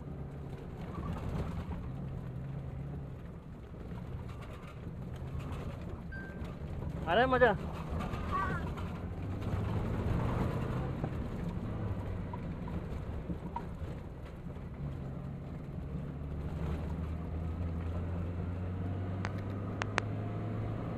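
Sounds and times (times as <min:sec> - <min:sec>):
car engine running: 0:00.0 - 0:20.9
tyres on dirt road: 0:00.0 - 0:20.9.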